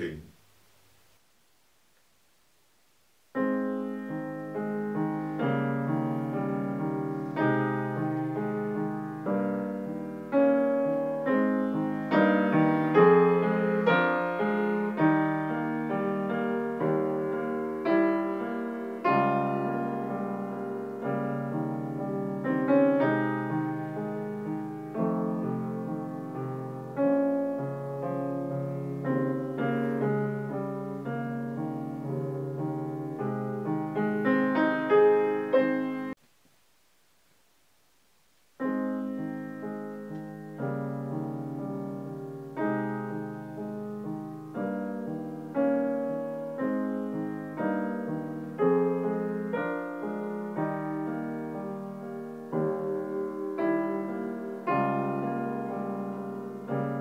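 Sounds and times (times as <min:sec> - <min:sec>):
grand piano playing: 0:03.4 - 0:36.2, 0:38.6 - 0:57.0.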